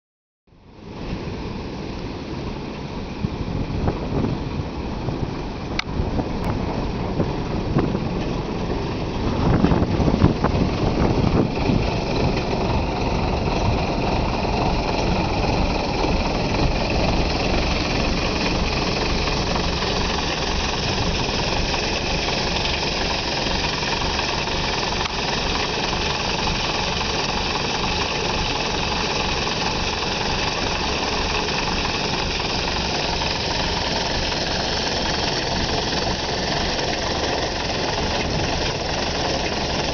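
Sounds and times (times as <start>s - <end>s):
diesel bus engine idling: 1.5s - 39.9s.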